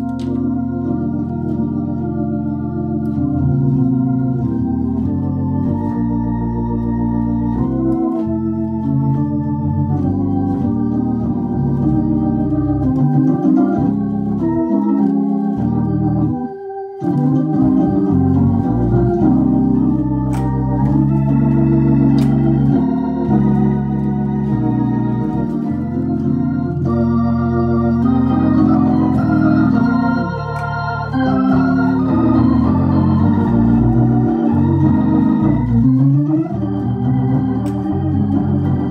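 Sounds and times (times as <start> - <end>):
organ playing sustained chords: 0.0 - 38.9.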